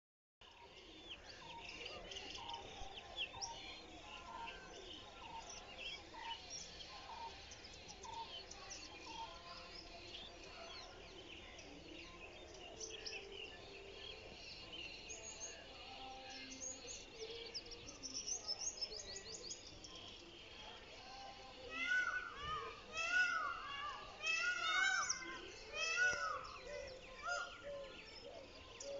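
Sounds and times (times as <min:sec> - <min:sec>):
faint background noise: 0:00.4 - 0:28.9
small birds chirping and whistling: 0:00.5 - 0:28.9.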